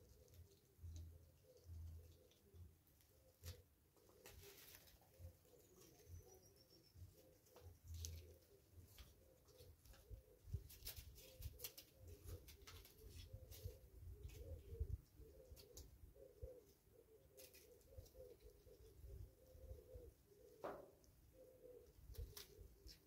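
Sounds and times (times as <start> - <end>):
doves cooing: 0.0 - 23.0.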